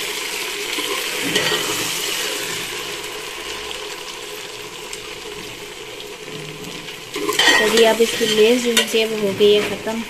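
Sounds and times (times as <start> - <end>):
vegetables sizzling in a pot: 0.0 - 10.0.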